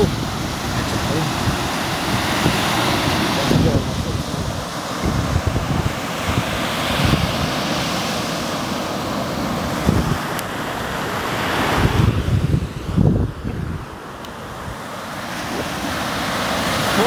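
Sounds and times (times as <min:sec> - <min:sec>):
surf breaking on sandy beach: 0:00.0 - 0:17.0
wind buffeting microphone: 0:00.0 - 0:17.0.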